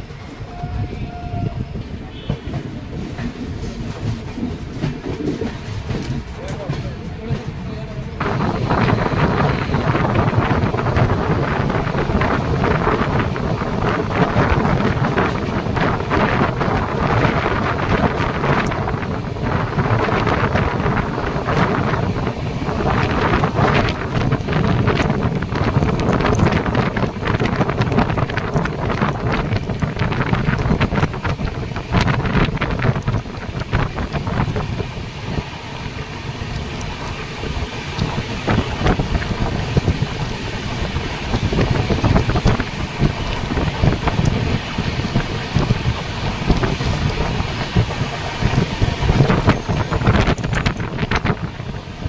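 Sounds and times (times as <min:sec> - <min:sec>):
train wheels rumbling on rails: 0:00.0 - 0:52.0
wind across microphone: 0:00.0 - 0:52.0.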